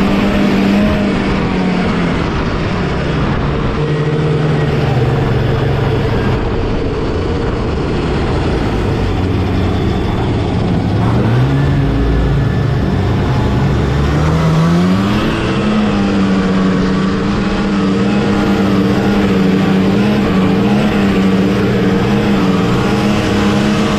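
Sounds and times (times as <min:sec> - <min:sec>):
snowmobile engine running: 0:00.0 - 0:23.9
track and wind noise: 0:00.0 - 0:23.9.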